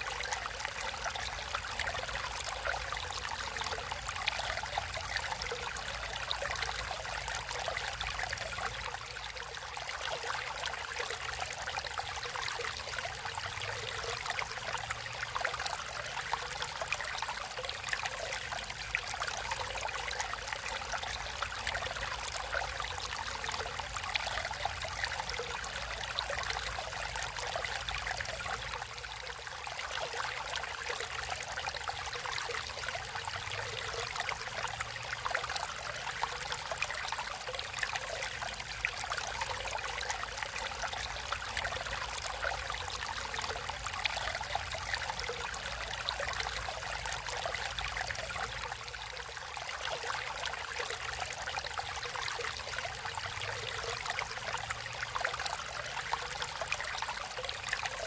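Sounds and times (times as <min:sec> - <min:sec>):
stream water flowing and trickling: 0:00.0 - 0:58.0.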